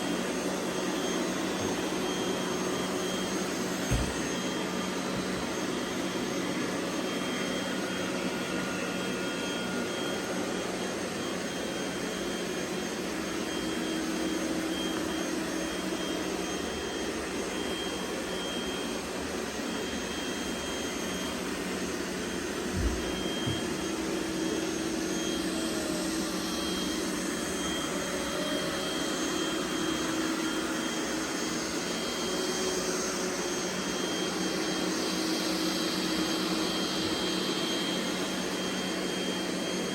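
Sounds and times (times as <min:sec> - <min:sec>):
robot vacuum cleaners whirring: 0:00.0 - 0:39.9.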